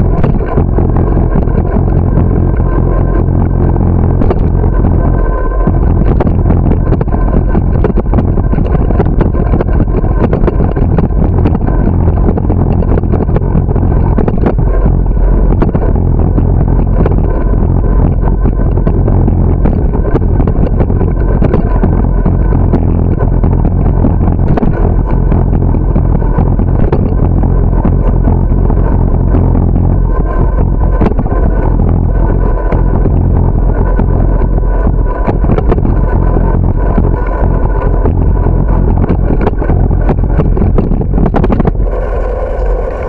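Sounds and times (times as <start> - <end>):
bicycle rattles and clicks: 0.0 - 43.0
tyre and road noise: 0.0 - 43.0
wind on microphone: 0.0 - 43.0.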